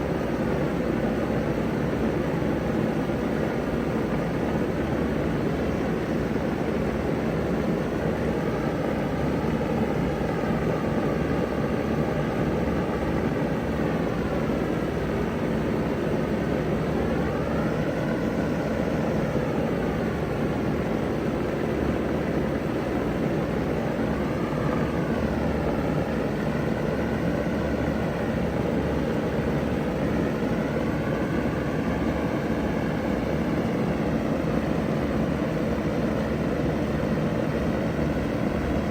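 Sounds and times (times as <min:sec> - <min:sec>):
heat pump fan rush: 0:00.0 - 0:38.9.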